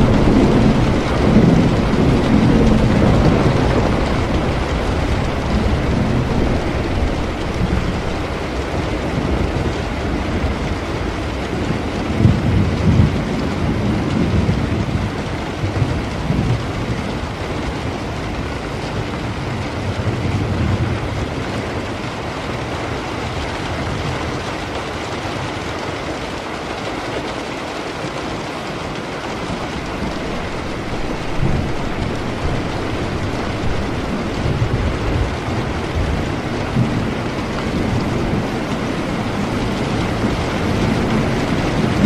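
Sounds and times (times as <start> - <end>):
heavy rain: 0.0 - 42.0
thunder rumbling: 0.0 - 42.0.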